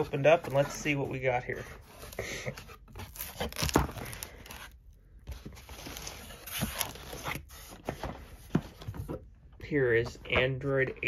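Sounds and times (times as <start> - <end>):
cardboard box rustling: 0.0 - 9.3.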